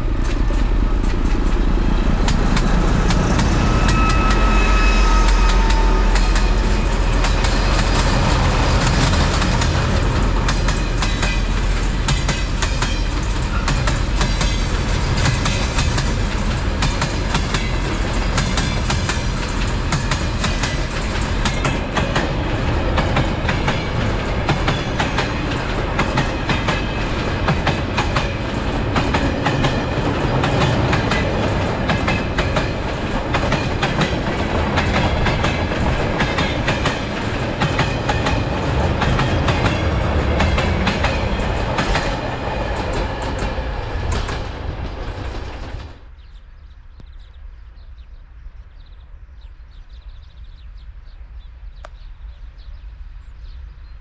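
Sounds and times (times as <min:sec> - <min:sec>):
train wheels clicking over rail joints: 0:00.0 - 0:46.0
low train rumble: 0:00.0 - 0:54.0.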